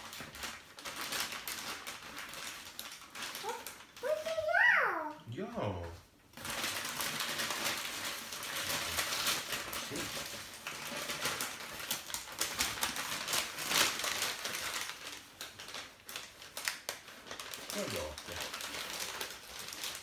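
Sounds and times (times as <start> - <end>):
wrapping paper rustling and tearing: 0.0 - 5.2, 6.3 - 20.0.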